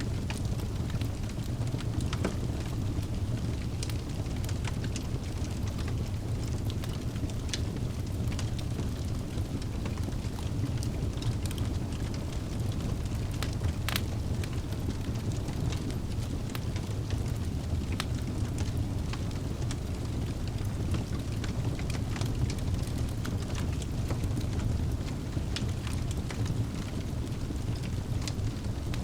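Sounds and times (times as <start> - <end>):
burning logs crackling: 0.0 - 29.0
fire flames rumbling: 0.0 - 29.0.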